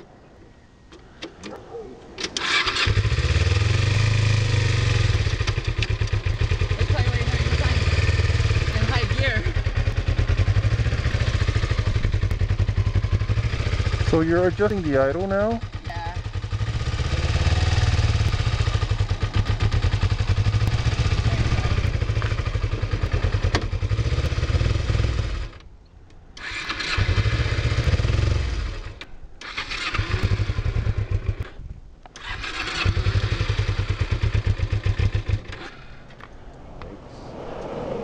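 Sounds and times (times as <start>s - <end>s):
motorcycle engine running and stalling: 2.4s - 25.6s, 26.4s - 31.6s, 32.2s - 35.8s.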